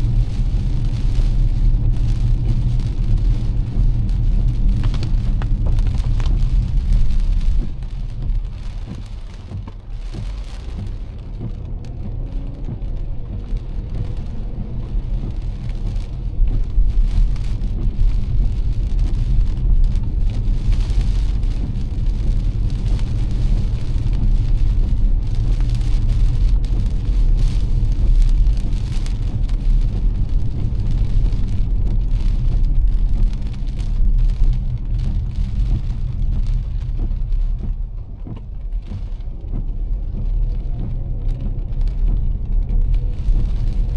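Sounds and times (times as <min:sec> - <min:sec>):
car road and engine rumble: 0:00.0 - 0:43.9
rain spattering on car: 0:00.0 - 0:43.9.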